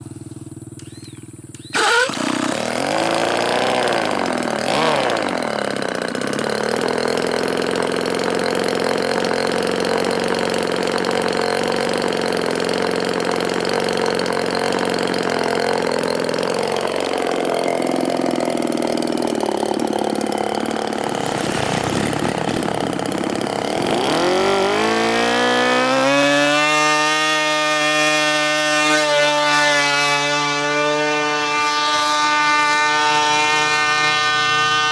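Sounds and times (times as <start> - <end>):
small model plane engine running: 0.6 - 34.9.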